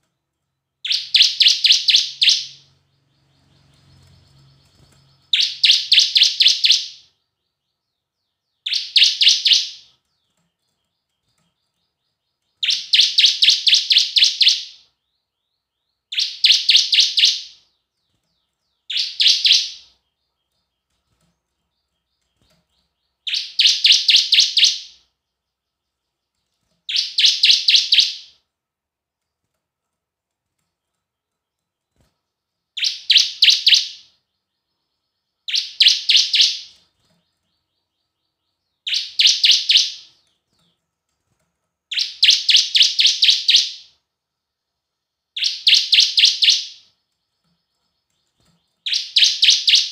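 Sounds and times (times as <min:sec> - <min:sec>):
bird singing high chirps: 0:00.8 - 0:28.4, 0:31.9 - 0:40.4, 0:41.9 - 0:44.0, 0:45.3 - 0:49.9.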